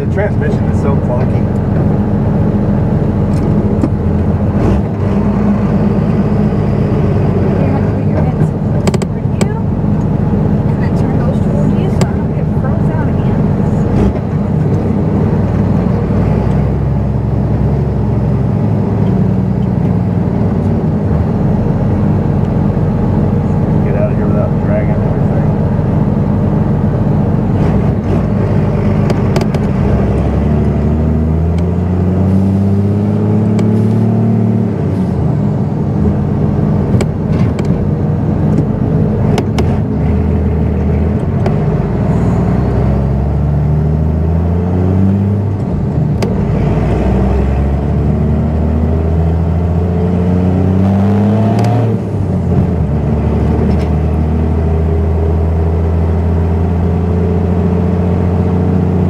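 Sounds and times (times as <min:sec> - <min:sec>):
truck engine shifting gears: 0:00.0 - 0:59.0.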